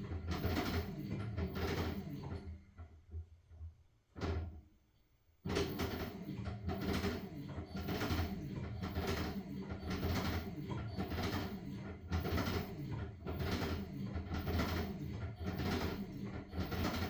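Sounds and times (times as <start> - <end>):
washing machine motor hum: 0.0 - 4.6, 5.4 - 17.0.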